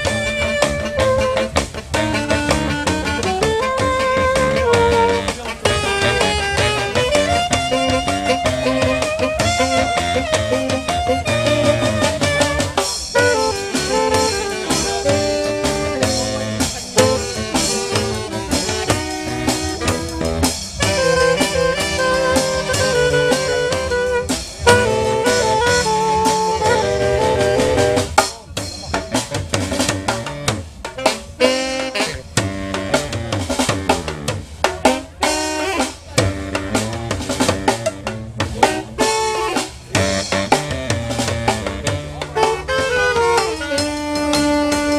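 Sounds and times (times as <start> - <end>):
drum beat: 0.0 - 44.9
horns playing a tune: 0.0 - 44.9.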